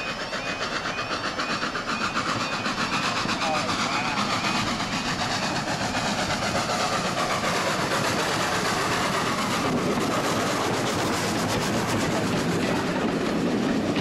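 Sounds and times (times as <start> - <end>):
steam locomotive exhaust beat: 0.0 - 14.0
wheels clattering on rails: 0.0 - 14.0.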